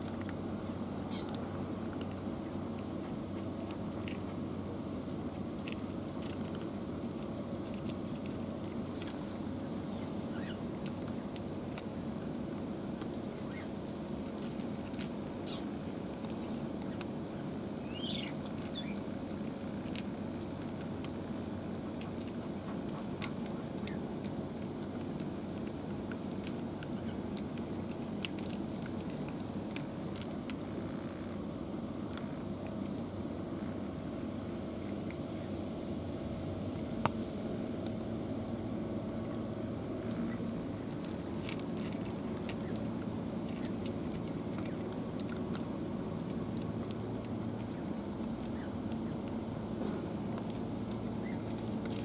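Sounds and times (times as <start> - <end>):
cats crunching dry kibble: 0.0 - 52.0
low background rumble: 0.0 - 52.0.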